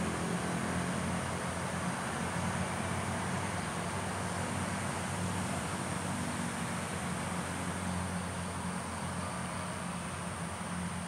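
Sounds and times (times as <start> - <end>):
distant road traffic hum: 0.0 - 11.0.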